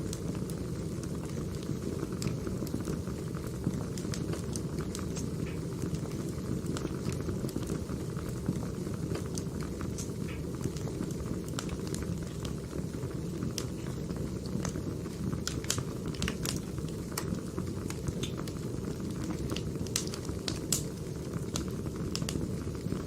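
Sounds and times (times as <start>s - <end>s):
firewood burning and crackling: 0.0s - 23.0s.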